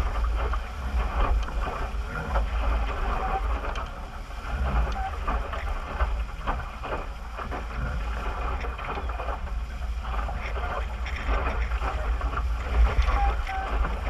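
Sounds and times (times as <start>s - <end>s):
water splashing against hull: 0.0s - 14.0s.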